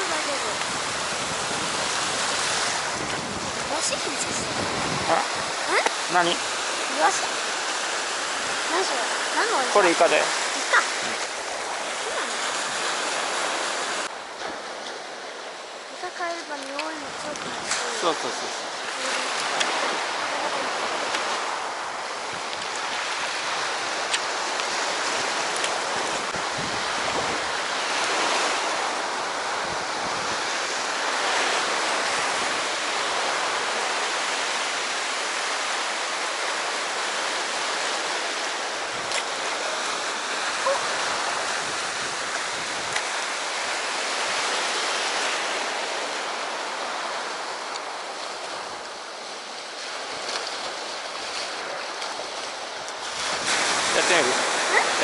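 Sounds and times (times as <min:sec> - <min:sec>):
sea surf washing onto shore: 0:00.0 - 0:55.0.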